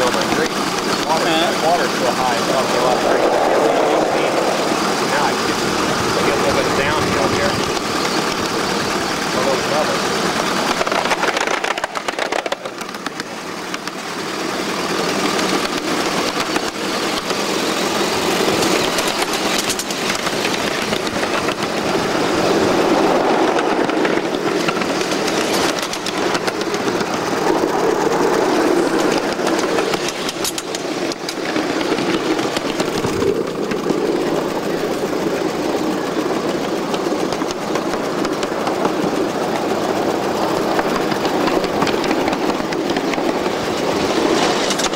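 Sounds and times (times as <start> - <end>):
steam locomotive running: 0.0 - 44.9
wheels on rails: 0.0 - 44.9.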